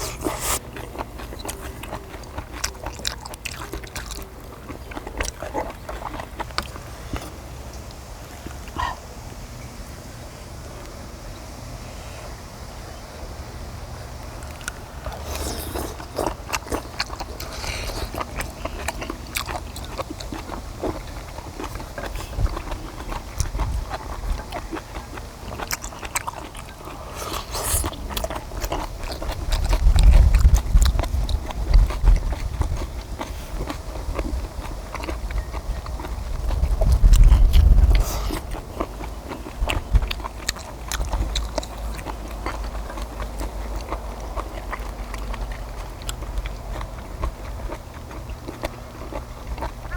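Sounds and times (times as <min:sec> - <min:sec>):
close chewing with wet smacks: 0:00.0 - 0:09.2, 0:13.9 - 0:49.9.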